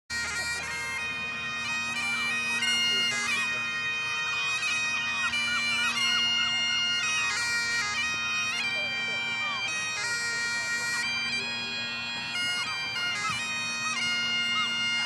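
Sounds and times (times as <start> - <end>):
bagpipes playing a march: 0.1 - 15.0.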